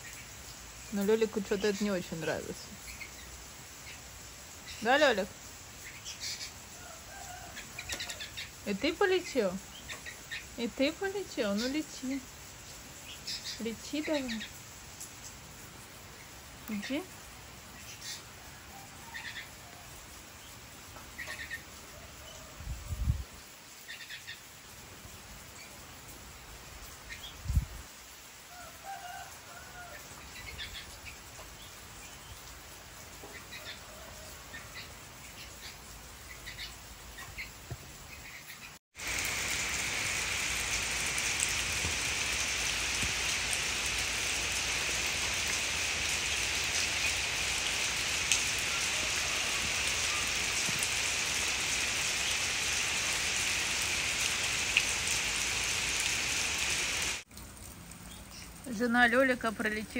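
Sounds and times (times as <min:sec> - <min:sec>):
rain falling on foliage: 0:00.0 - 0:59.9.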